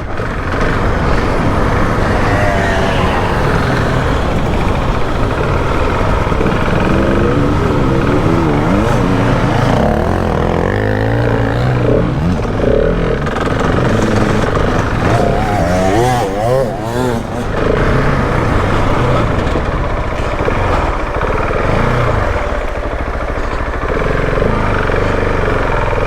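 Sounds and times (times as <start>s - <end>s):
motorcycle engine revving: 0.0s - 26.0s
wind and ground noise: 0.0s - 26.0s.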